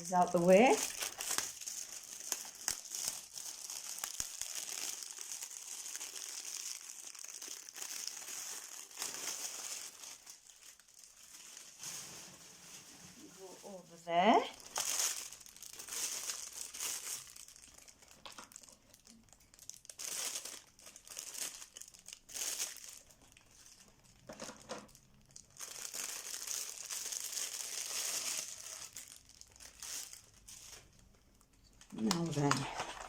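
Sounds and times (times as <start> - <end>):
packaging crinkling and rustling: 0.0 - 33.0.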